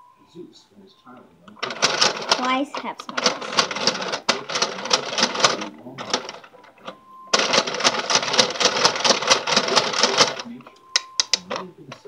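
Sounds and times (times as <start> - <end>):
toy gears clattering: 1.6 - 12.0.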